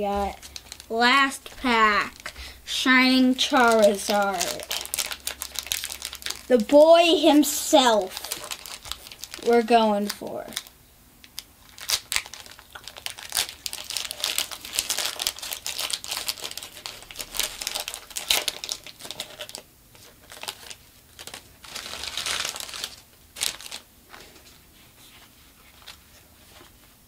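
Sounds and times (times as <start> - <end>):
foil wrapper tearing and crinkling: 0.1 - 6.8, 7.4 - 24.4.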